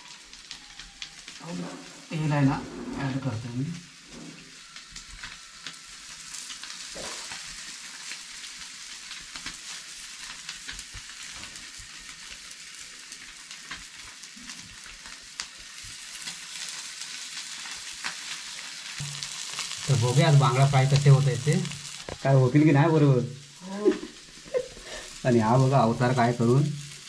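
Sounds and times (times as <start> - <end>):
oil crackles and pops: 0.0 - 2.4, 3.4 - 27.0
fish sizzling in oil: 0.0 - 27.0.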